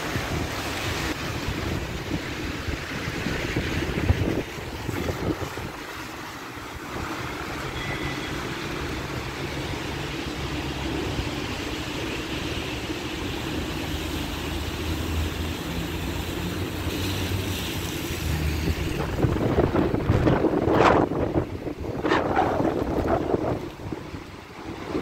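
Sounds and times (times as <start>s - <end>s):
low traffic hum: 0.0s - 25.0s
rain and tyres on wet road: 0.0s - 25.0s.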